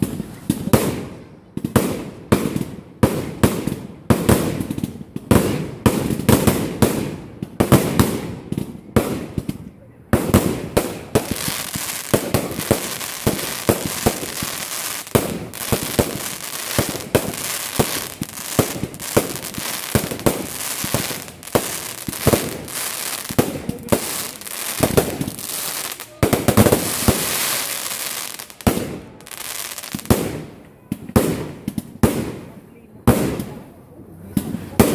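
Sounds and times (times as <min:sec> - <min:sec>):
fireworks crackling hiss: 0:00.0 - 0:09.5, 0:10.2 - 0:32.6
fireworks bangs and pops: 0:00.0 - 0:33.7, 0:34.3 - 0:34.9.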